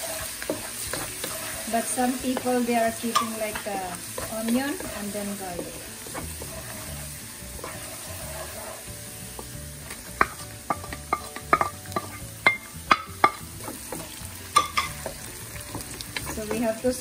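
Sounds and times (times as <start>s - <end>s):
garlic sizzling in oil: 0.0s - 17.0s.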